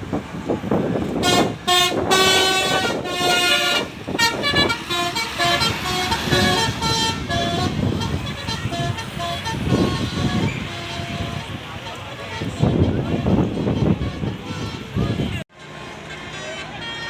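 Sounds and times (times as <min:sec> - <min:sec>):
road noise: 0:00.0 - 0:17.0
multi-tone bus horn tune: 0:01.0 - 0:17.0.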